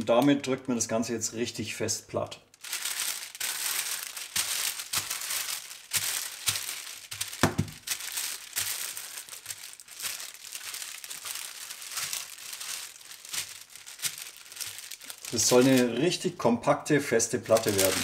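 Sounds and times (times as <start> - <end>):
baking paper crinkling: 2.5 - 16.4, 17.2 - 18.0.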